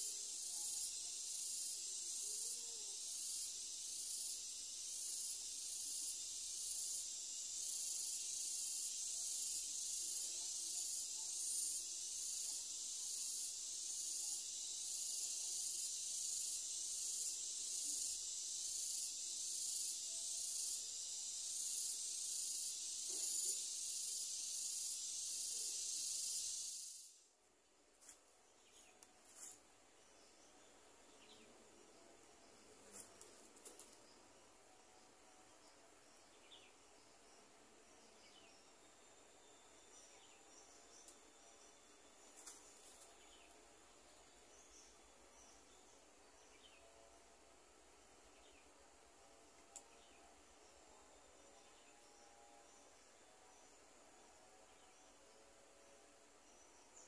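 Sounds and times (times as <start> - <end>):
pulsing insect chorus: 0.0 - 27.4, 28.5 - 57.0.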